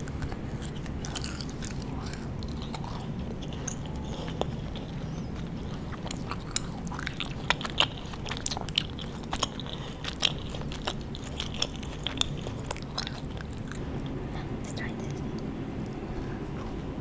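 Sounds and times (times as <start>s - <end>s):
person chewing crunchy candy: 0.0s - 17.0s.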